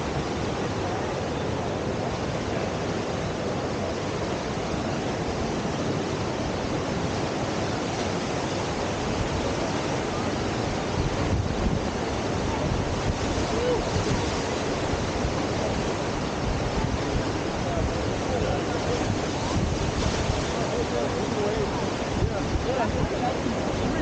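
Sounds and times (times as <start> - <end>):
whitewater rushing: 0.0 - 24.0.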